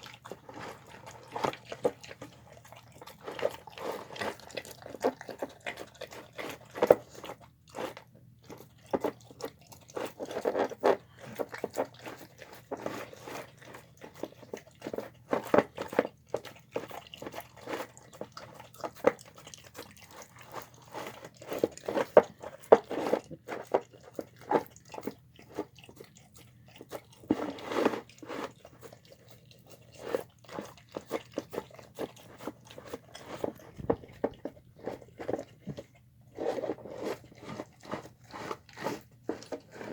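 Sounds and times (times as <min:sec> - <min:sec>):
dog crunching and chewing: 0:00.0 - 0:39.9.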